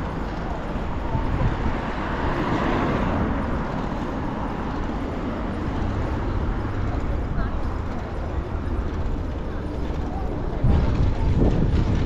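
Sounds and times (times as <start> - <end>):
city street traffic: 0.0 - 12.0
wind rumble on microphone: 0.0 - 12.0.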